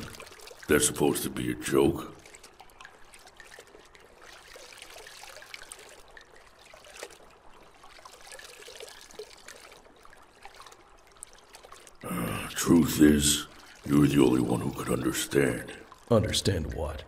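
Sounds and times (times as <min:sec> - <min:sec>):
small water drips: 0:00.0 - 0:17.0
water trickling: 0:00.0 - 0:17.0.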